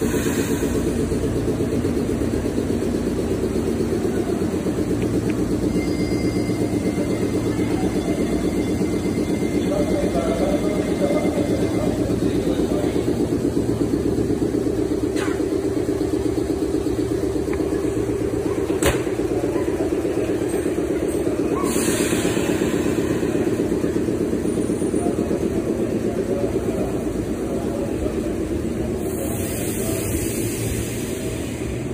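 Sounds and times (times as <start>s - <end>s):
electric train pulsing hum: 0.0s - 31.9s.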